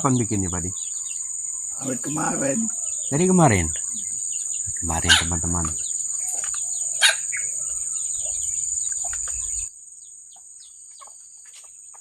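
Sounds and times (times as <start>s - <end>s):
bird chirps: 0.0s - 12.0s
insects droning: 0.0s - 12.0s.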